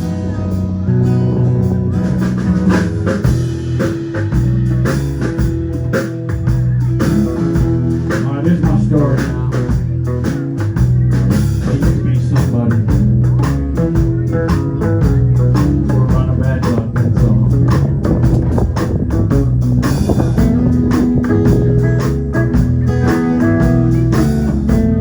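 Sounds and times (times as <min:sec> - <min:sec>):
bass: 0:00.0 - 0:25.0
drums keeping a steady beat: 0:00.0 - 0:25.0
guitar: 0:00.0 - 0:25.0.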